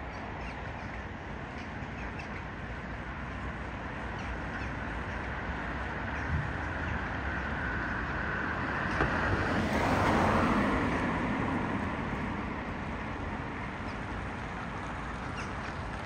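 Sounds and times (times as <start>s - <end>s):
road vehicle passing by: 1.6s - 16.0s.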